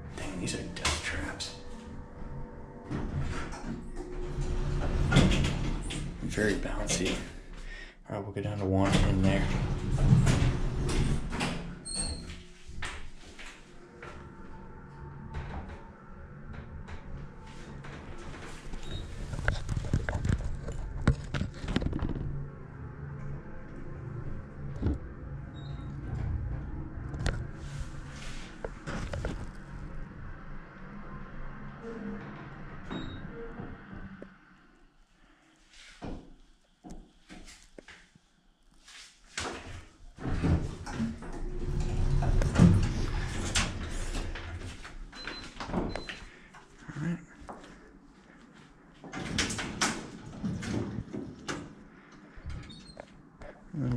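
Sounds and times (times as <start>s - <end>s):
elevator steady low hum: 0.0s - 34.8s, 40.1s - 53.9s.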